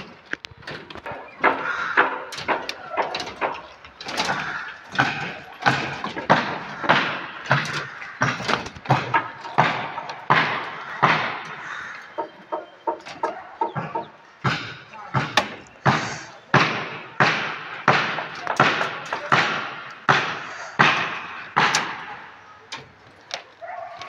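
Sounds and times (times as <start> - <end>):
hammer blows ringing: 1.1 - 22.4.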